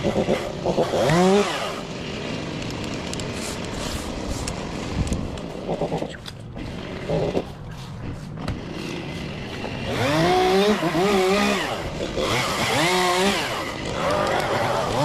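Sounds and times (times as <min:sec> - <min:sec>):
chainsaw revving: 0:00.0 - 0:07.7, 0:08.4 - 0:15.0.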